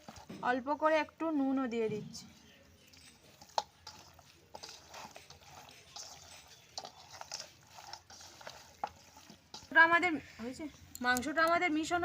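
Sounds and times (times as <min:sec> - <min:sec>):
hands mixing chicken in bowl: 0:00.0 - 0:00.6, 0:02.2 - 0:12.0.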